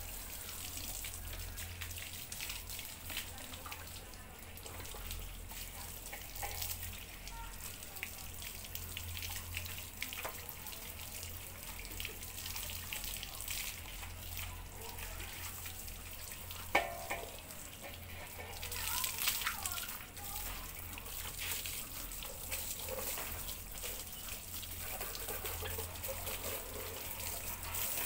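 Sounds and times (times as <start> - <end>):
hose water splashing: 0.0 - 28.0.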